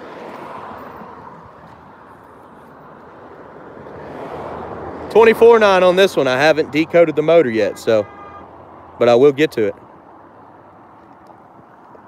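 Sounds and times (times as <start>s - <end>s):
outdoor rushing background noise: 0.0s - 12.0s.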